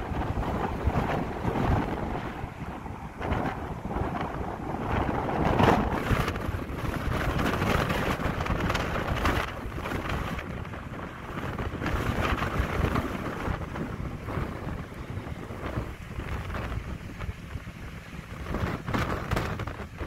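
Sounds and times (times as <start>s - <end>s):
low rumble of passing ship: 0.0s - 20.0s
wind buffeting microphone: 0.0s - 20.0s.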